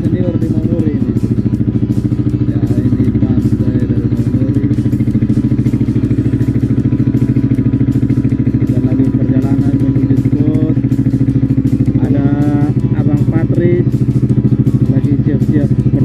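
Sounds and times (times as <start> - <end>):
motor boat engine thumping: 0.0 - 16.0.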